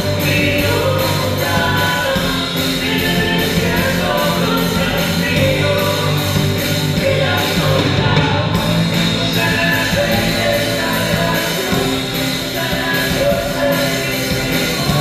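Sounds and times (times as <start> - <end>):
bass guitar: 0.0 - 15.0
drum kit beat on cymbals: 0.0 - 15.0
electric guitar: 0.0 - 15.0
women singing: 0.0 - 15.0.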